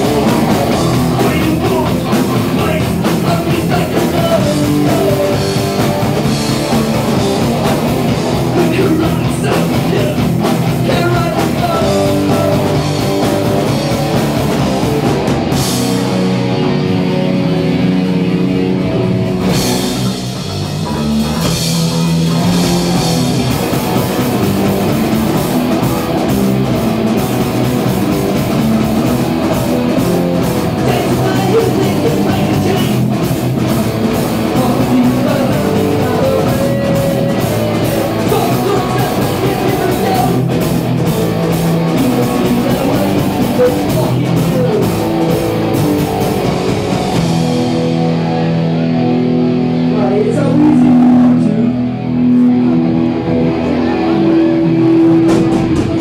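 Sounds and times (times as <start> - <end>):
electric guitars through amplifiers: 0.0 - 56.0
pounding drum kit: 0.0 - 56.0.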